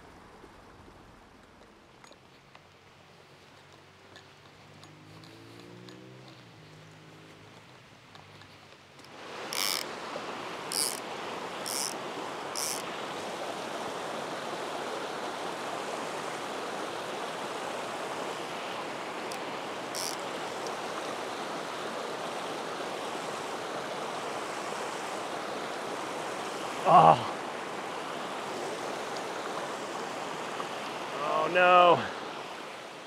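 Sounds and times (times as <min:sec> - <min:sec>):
creek flowing over rocks: 0:00.0 - 0:33.0.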